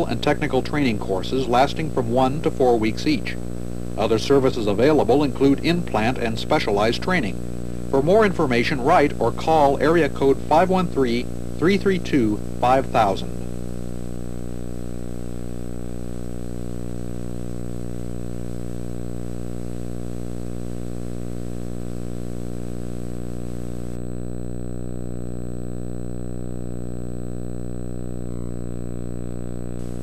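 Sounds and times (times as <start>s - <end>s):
electrical hum-buzz: 0.0s - 30.0s
tape hiss: 0.0s - 30.0s
thin high whine: 0.0s - 30.0s.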